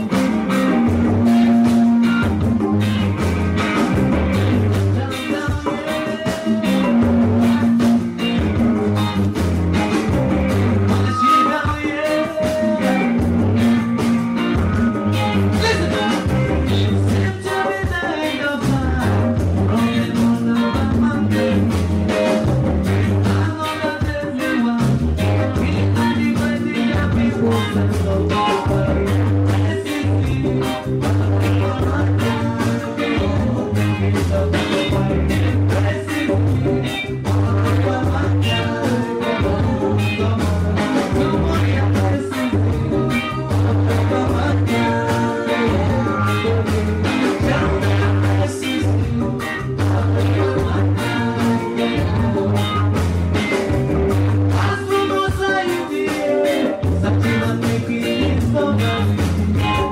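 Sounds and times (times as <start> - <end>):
bass line: 0.0 - 59.9
drums and percussion: 0.0 - 59.9
person singing: 4.3 - 8.2, 9.9 - 59.9.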